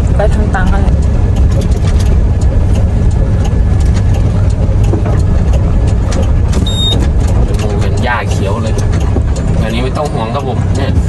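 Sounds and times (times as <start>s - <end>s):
truck engine and road rumble: 0.0s - 11.0s
sharp clicks: 0.5s - 11.0s.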